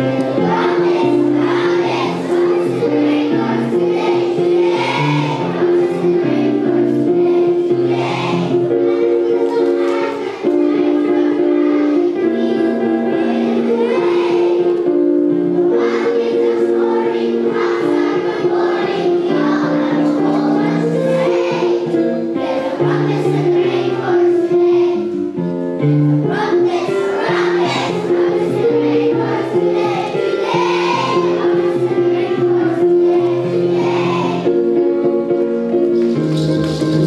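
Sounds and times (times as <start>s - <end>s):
children's choir singing: 0.0s - 37.0s
instrumental accompaniment: 0.0s - 37.0s.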